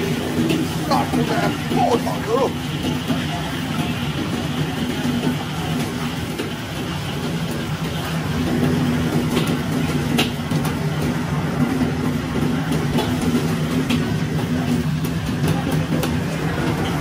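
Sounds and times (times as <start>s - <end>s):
wok burner and ventilation hum: 0.0s - 17.0s.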